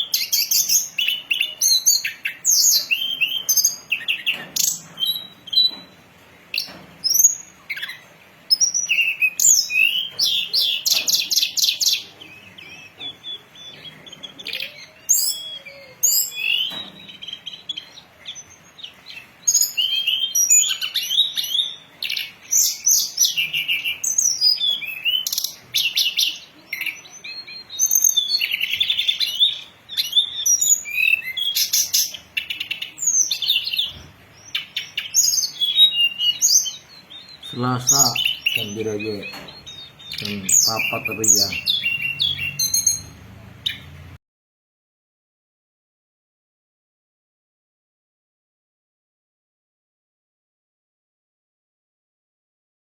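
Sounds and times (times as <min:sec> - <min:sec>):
songbird chirping and trilling: 0:00.0 - 0:44.2.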